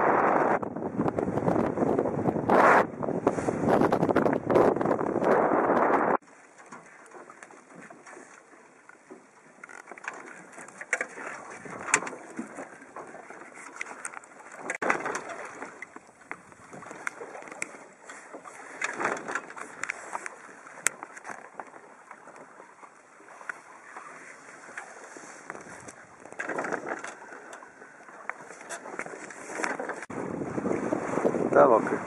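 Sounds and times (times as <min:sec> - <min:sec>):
water slapping against boat hull: 0:00.6 - 0:32.0.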